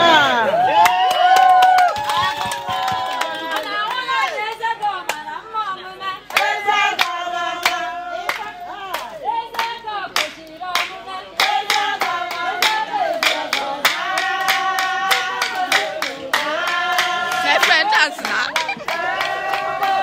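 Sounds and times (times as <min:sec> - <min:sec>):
hand claps: 0:00.8 - 0:05.3, 0:06.3 - 0:20.0
group of people singing: 0:02.8 - 0:20.0.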